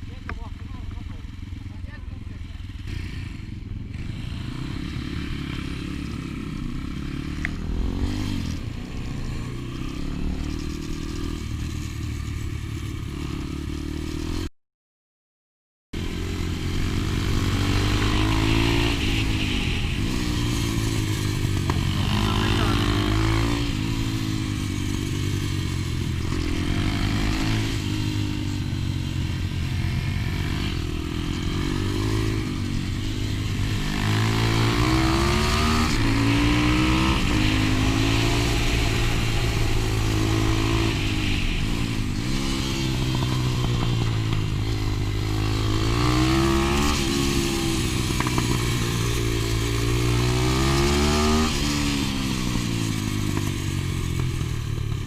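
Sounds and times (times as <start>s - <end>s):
motorbike engine revving: 0.7s - 14.5s, 16.0s - 55.0s.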